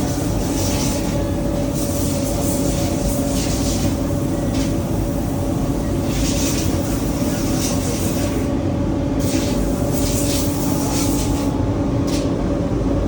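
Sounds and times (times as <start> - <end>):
industrial machinery humming: 0.0 - 13.0.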